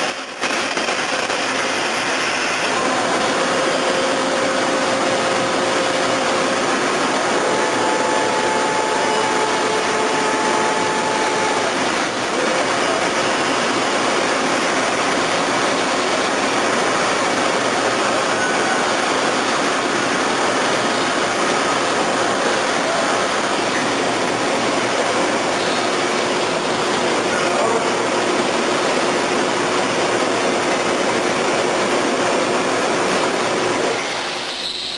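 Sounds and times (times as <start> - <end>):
faint machine whine: 0.0 - 34.9
milling machine hiss: 0.0 - 34.9.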